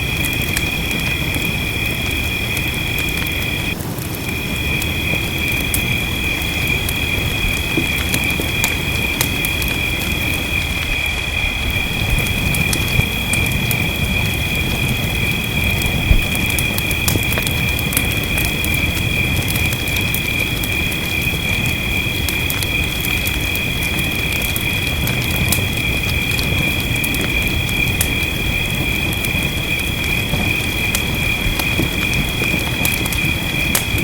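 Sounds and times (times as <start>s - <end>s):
fireplace fire crackling: 0.0s - 34.0s
rain rumble: 0.0s - 34.0s.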